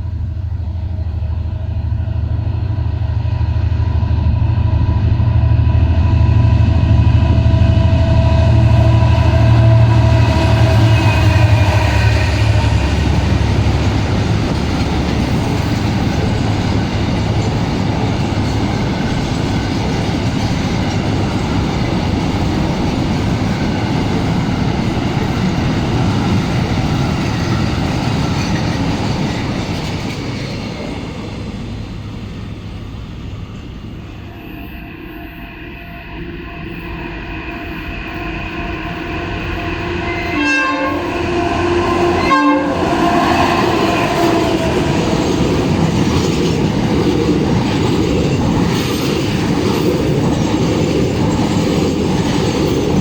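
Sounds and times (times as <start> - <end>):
diesel locomotive passing: 0.0 - 53.0.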